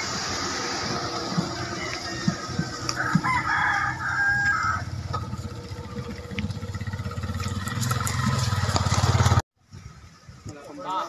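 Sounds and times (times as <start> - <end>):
vehicle engine low rumble: 0.0 - 9.4.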